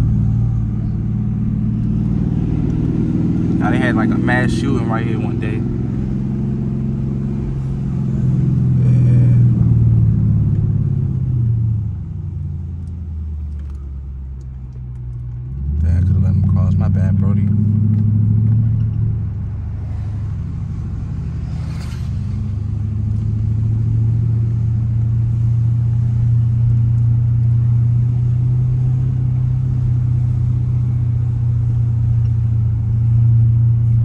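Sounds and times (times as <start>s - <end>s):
car exhaust droning: 0.0s - 34.0s.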